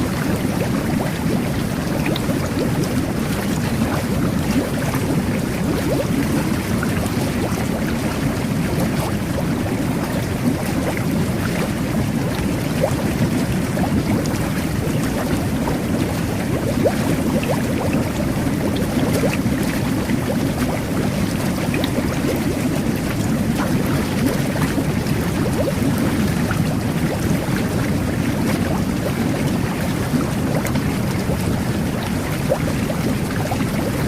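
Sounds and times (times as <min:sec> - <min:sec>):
jet bath bubbling: 0:00.0 - 0:34.0.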